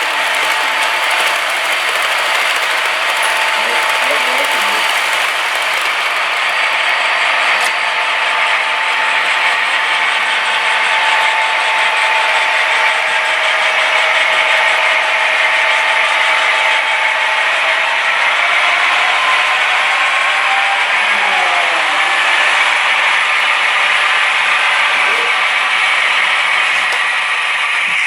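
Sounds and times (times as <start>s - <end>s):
model train wheels clattering: 0.0s - 28.0s
motor whine: 0.0s - 28.0s.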